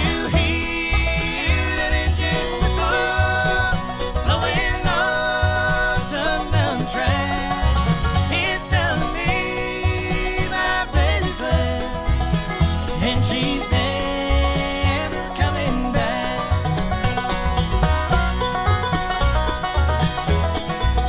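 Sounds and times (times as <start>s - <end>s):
banjo picking: 0.0s - 21.0s
bass pulse: 0.0s - 21.0s
guitar picking: 0.0s - 21.0s
sliding lead melody: 0.0s - 21.0s.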